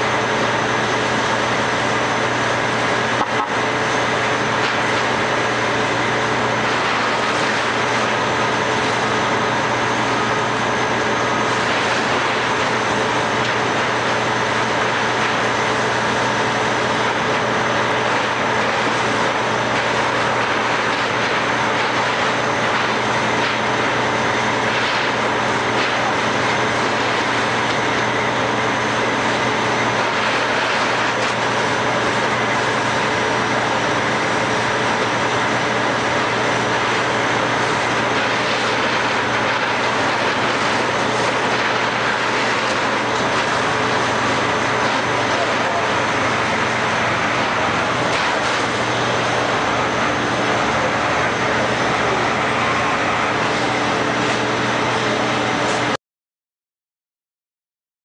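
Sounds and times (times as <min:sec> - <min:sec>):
heavy engine droning: 0:00.0 - 0:56.0.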